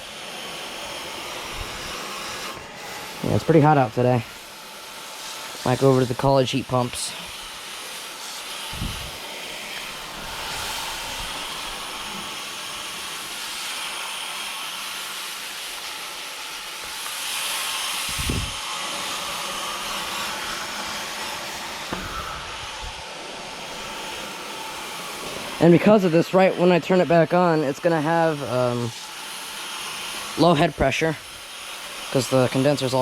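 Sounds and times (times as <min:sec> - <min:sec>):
hose water spraying: 0:00.0 - 0:33.0.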